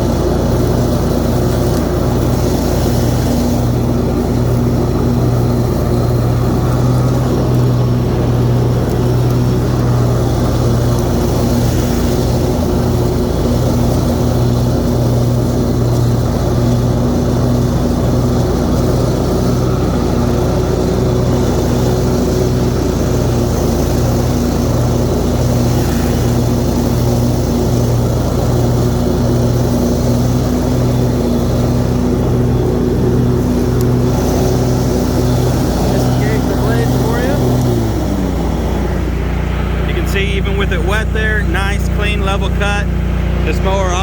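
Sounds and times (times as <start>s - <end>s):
mower engine running: 0.0s - 44.0s.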